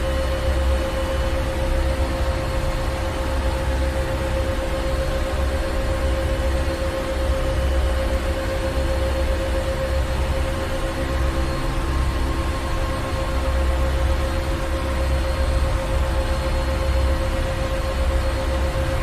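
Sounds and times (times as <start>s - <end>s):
constant hum tone: 0.0s - 19.0s.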